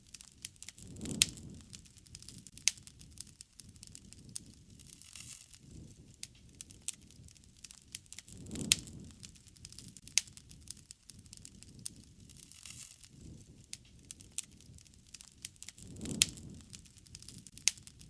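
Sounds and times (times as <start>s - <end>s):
low rush of flames: 0.0s - 18.0s
wood fire pops and snaps: 0.0s - 18.0s.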